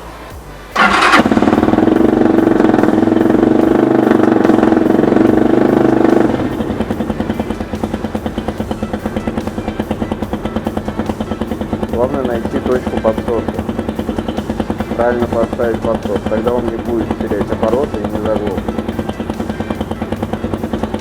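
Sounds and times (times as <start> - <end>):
motorcycle engine starting and idling: 0.8 - 21.0.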